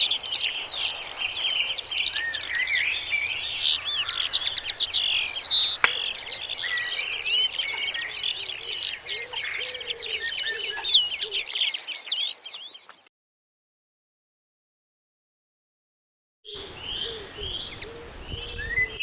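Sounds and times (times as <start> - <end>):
songbirds chirping and singing: 0.0 - 13.1, 16.5 - 19.0.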